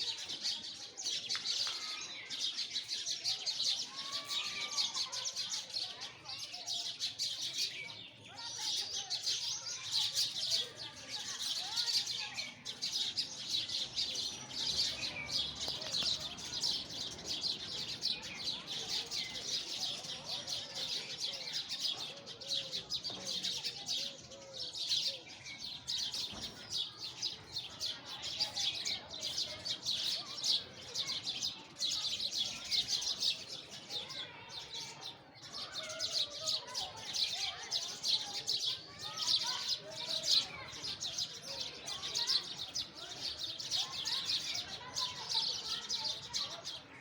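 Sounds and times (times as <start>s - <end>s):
sparrows chirping: 0.0s - 47.0s.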